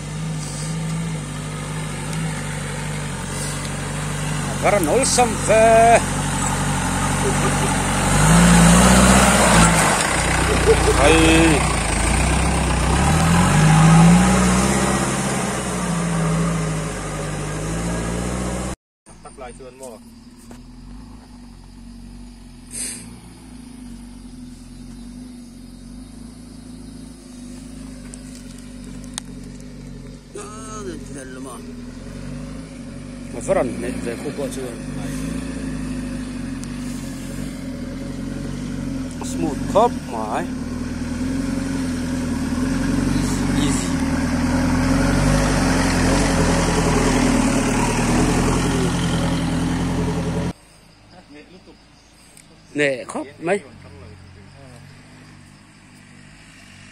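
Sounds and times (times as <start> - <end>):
jeep engine running at low revs: 0.0 - 50.6.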